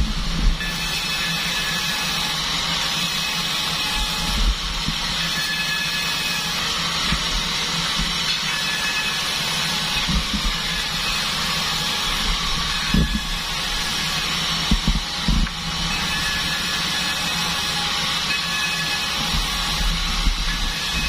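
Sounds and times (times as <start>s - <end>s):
band saw sawing wood: 0.0s - 21.0s.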